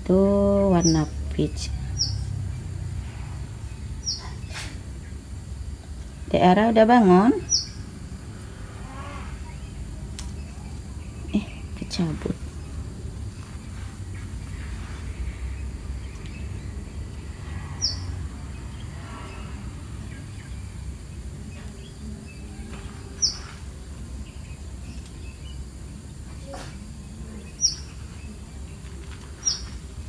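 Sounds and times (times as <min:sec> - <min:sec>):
bird chirp: 0:00.3 - 0:02.8, 0:03.5 - 0:05.4, 0:07.0 - 0:08.0, 0:08.8 - 0:30.0.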